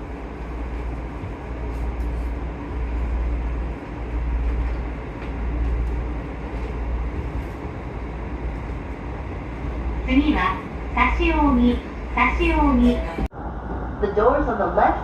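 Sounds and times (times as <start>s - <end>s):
train wheels rumbling: 0.0s - 13.3s.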